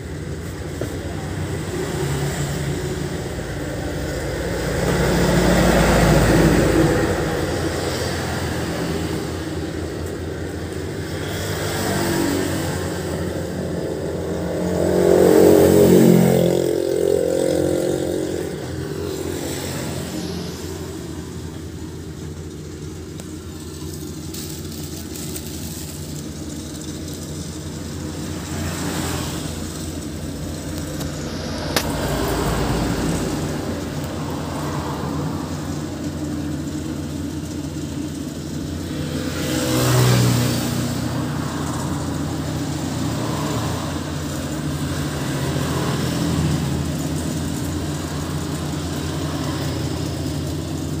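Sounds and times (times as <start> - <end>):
harvesting machine engine running: 0.0 - 51.0.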